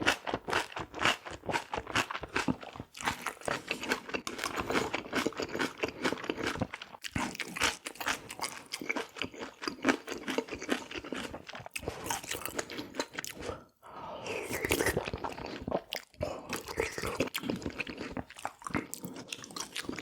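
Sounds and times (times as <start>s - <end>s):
crunchy chewing: 0.1s - 13.6s, 14.3s - 20.0s.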